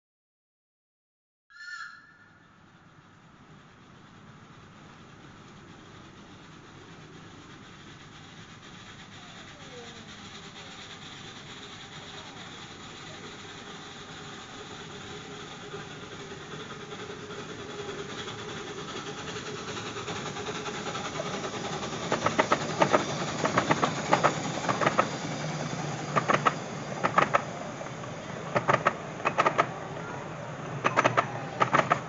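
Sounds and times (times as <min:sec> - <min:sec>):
miniature steam locomotive running: 0:02.6 - 0:32.0
wheels clacking over rail crossing: 0:02.8 - 0:32.0.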